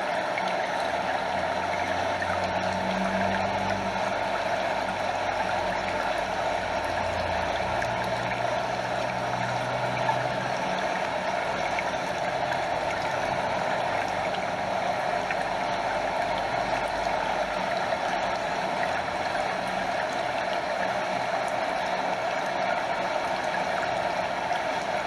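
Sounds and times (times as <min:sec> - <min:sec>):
stream over small waterfall: 0:00.0 - 0:25.0.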